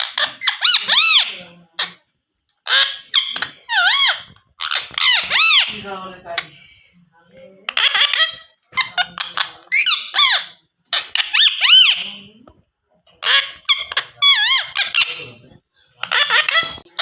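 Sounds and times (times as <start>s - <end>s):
parakeet calling: 0.0s - 6.8s, 7.7s - 12.4s, 13.1s - 15.4s, 16.0s - 17.0s.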